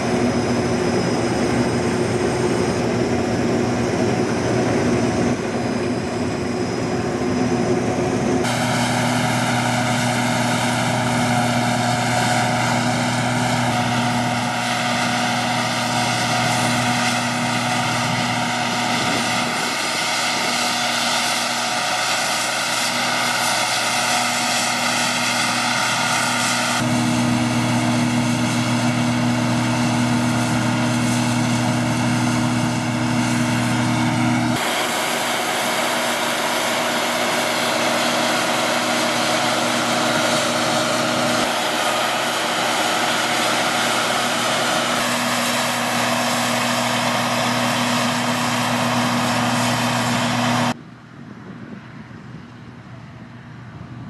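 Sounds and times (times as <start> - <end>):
threshing machinery whine: 0.0 - 50.8
diesel engine drone: 0.0 - 54.0.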